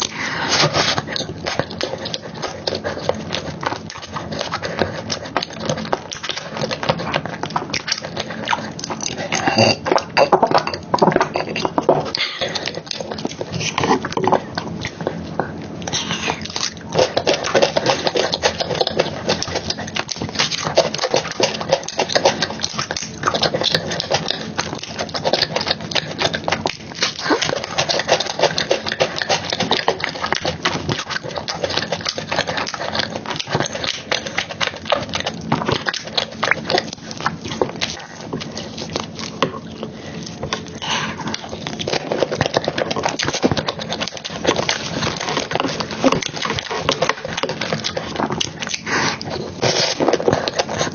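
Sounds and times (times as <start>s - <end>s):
wet chewing and lip smacking: 0.0s - 50.9s.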